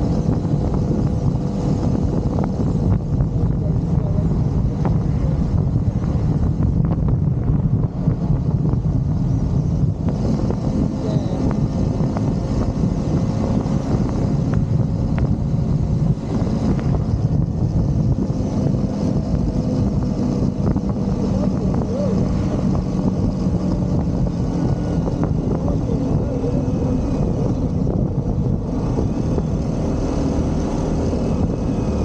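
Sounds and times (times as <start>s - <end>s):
motorcycle engine cruising: 0.0s - 32.0s
wind noise on microphone: 0.0s - 32.0s.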